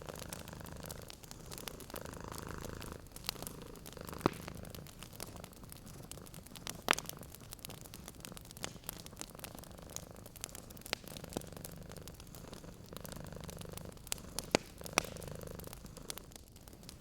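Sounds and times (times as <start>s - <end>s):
cat purring: 0.0s - 17.0s
wood fire crackling and popping: 0.0s - 17.0s.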